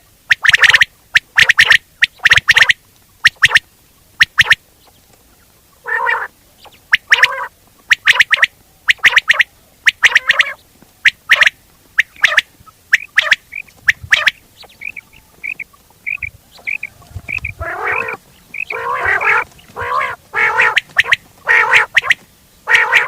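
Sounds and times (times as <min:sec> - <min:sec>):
quail calling: 0:00.3 - 0:23.0.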